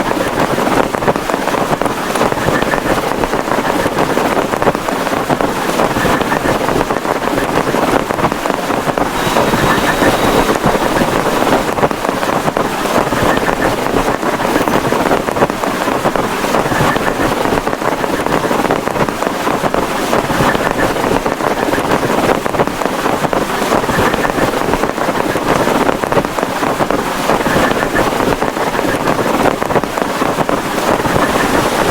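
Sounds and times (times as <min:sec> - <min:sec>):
heavy rain on plastic tarp: 0:00.0 - 0:31.9.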